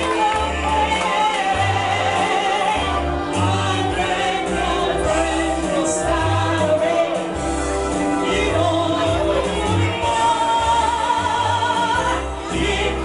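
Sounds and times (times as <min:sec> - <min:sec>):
person singing into microphone: 0:00.0 - 0:07.4, 0:08.0 - 0:13.0
amplified backing music: 0:00.0 - 0:13.0.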